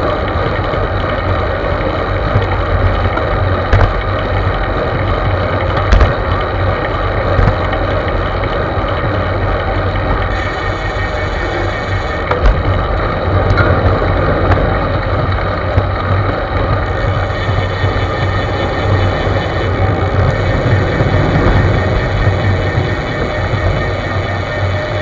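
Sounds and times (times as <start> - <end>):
road rumble: 0.0 - 25.0
wind buffeting microphone: 0.0 - 25.0.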